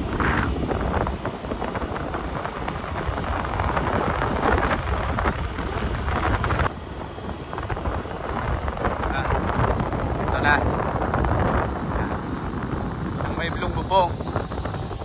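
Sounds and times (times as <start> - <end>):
vehicle moving: 0.0 - 15.0
wind buffeting microphone: 0.0 - 15.0.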